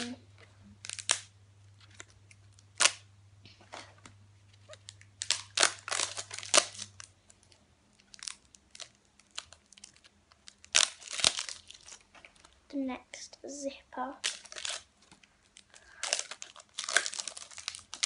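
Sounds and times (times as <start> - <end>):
plastic wrapping crinkling: 0.0 - 13.2, 14.1 - 18.0.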